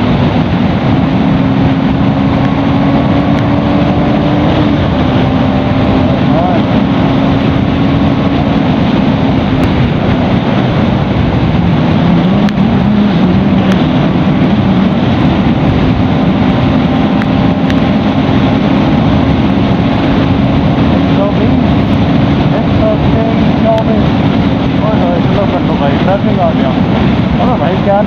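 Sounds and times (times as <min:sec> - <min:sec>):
motorcycle engine running: 0:00.0 - 0:28.0
wind rush on microphone: 0:00.0 - 0:28.0.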